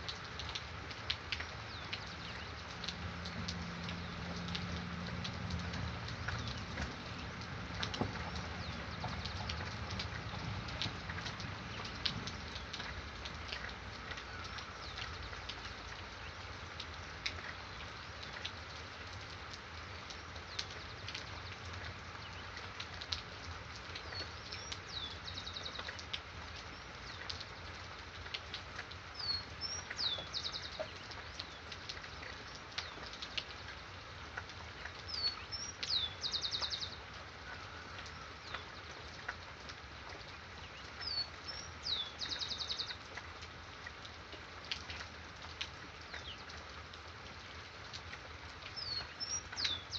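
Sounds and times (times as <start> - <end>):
steady rain: 0.0 - 49.9
water drips: 0.0 - 49.9.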